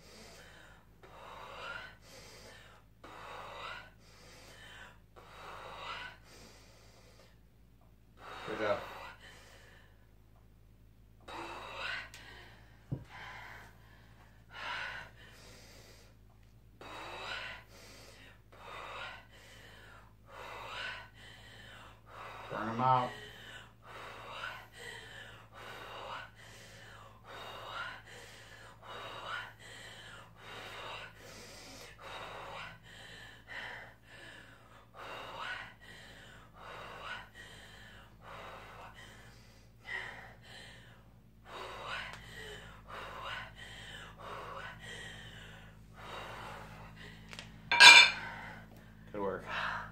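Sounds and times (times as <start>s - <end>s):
woman breathing hard: 0.0s - 49.9s.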